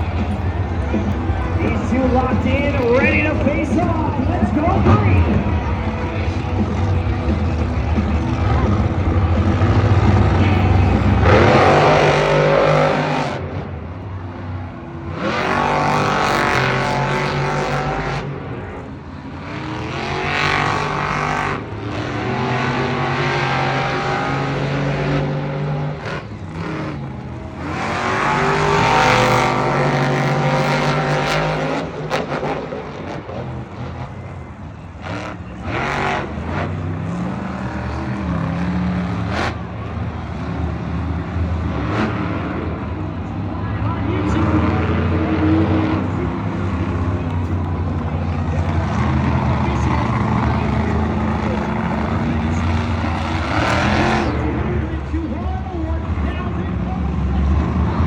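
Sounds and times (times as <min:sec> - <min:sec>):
monster truck engines revving: 0:00.0 - 0:58.0.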